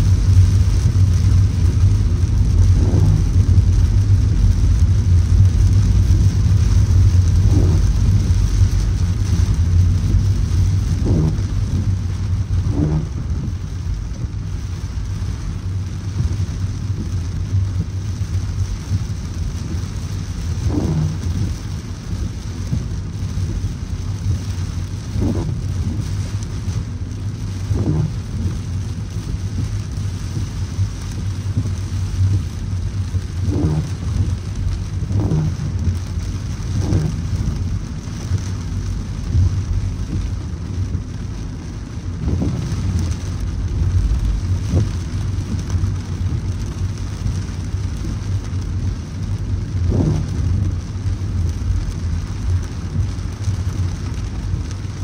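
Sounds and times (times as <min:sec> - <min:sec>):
heavy rain on car: 0:00.0 - 0:55.0
road noise rumble: 0:00.0 - 0:55.0.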